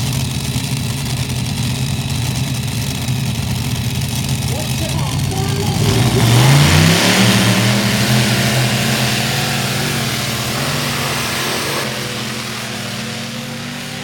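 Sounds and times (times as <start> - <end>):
tractor engine roaring: 0.0 - 14.0.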